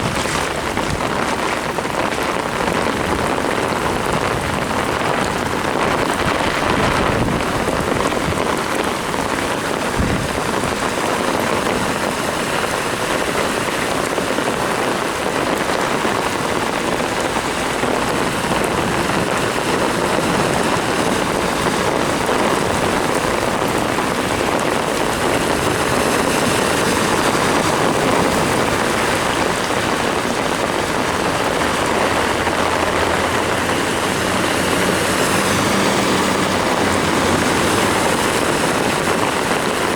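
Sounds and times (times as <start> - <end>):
low vehicle engine hum: 0.0 - 39.9
torrential rain: 0.0 - 39.9.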